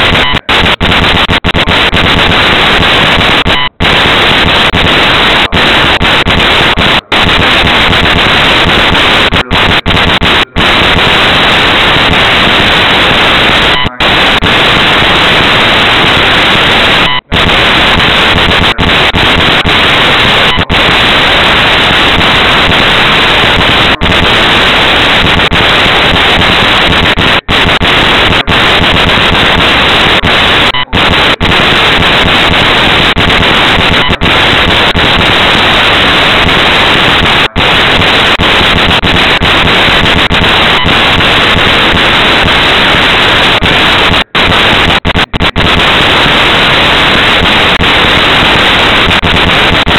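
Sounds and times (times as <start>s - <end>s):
loud static hiss: 0.0s - 49.9s.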